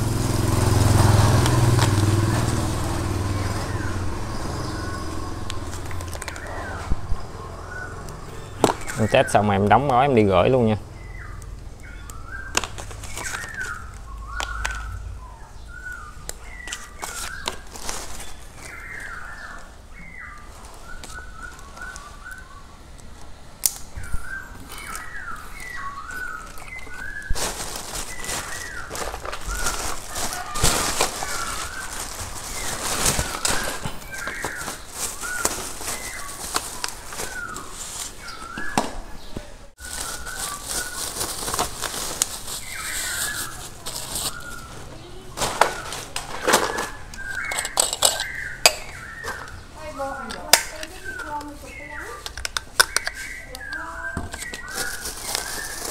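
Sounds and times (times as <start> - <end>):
plastic bags rustling: 0.0 - 23.4, 24.0 - 38.9, 39.7 - 55.9
small birds chirping: 0.0 - 55.9.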